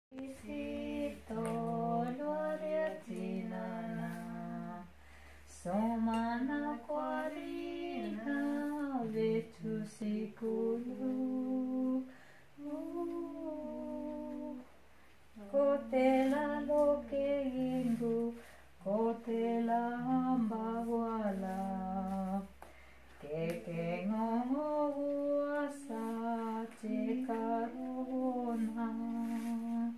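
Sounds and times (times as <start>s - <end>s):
women singing: 0.1s - 14.8s, 15.4s - 22.6s, 23.2s - 29.9s.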